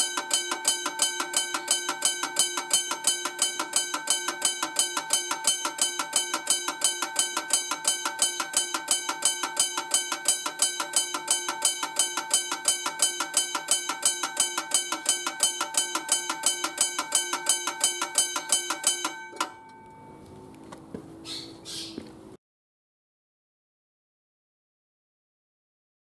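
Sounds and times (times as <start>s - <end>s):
railway crossing bell ringing: 0.0s - 21.6s.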